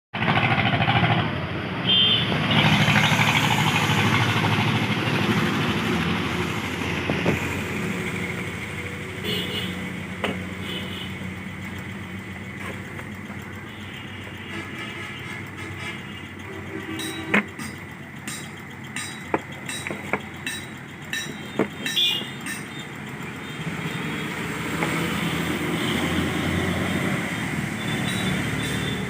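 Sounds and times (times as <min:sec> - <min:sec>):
vehicle engine running: 0:00.2 - 0:29.0.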